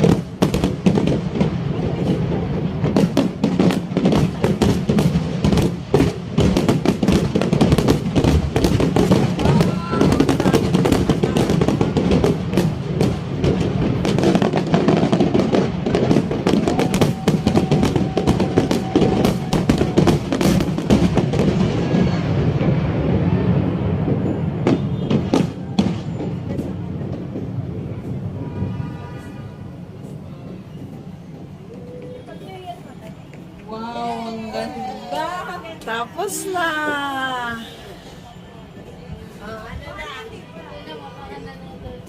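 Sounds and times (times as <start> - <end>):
fireworks bangs and crackles: 0.0 - 33.7.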